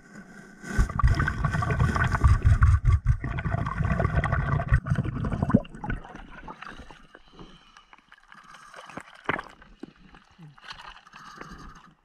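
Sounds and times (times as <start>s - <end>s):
water sloshing and dripping: 0.8s - 12.0s.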